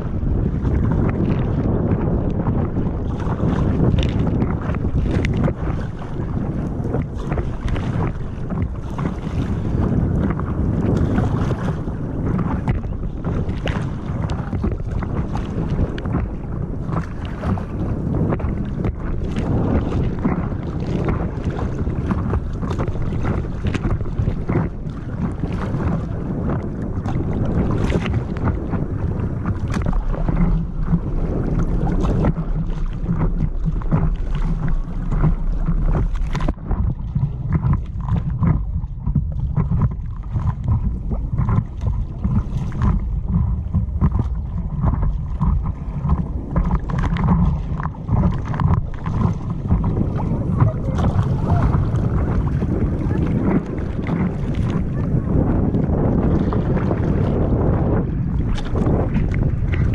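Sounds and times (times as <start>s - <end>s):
steady low rumble: 0.0s - 59.9s
water slapping against hull: 0.0s - 59.9s
wind buffeting microphone: 0.0s - 59.9s.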